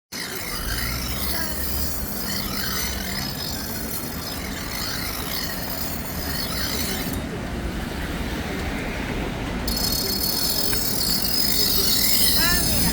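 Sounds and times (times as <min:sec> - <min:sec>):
knife blade scraping: 0:00.1 - 0:07.3, 0:09.7 - 0:12.9.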